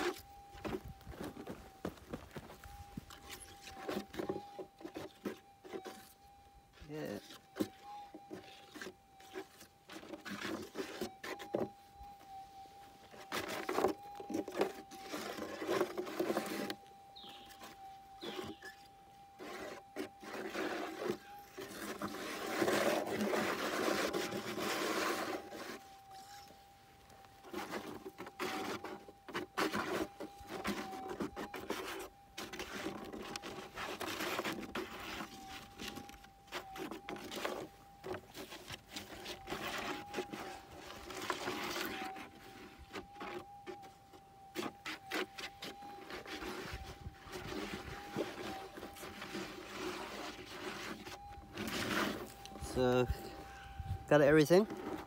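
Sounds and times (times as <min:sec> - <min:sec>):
metal detector tone: 0:00.0 - 0:55.0
scraping and rustling: 0:00.0 - 0:55.0.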